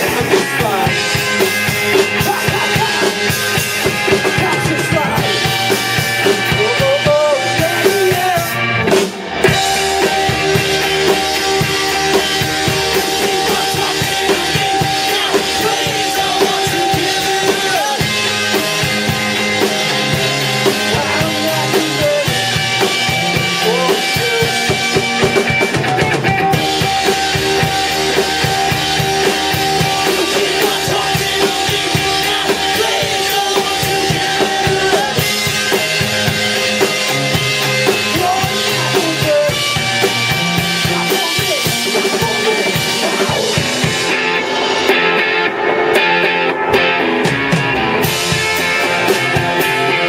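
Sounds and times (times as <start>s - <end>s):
drum kit beat: 0.0s - 50.0s
sustained guitar notes: 0.0s - 50.0s.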